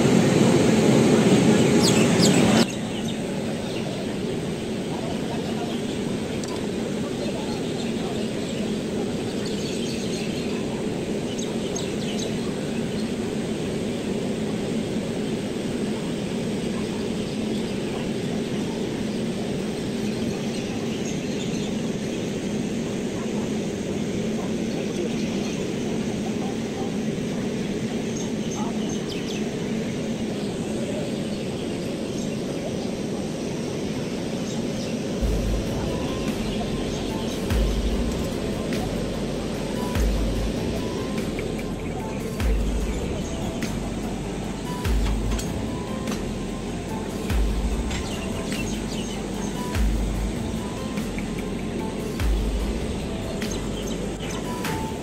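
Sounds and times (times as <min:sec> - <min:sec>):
birds chirping faintly: 0:00.0 - 0:55.0
train mechanical drone: 0:00.0 - 0:55.0.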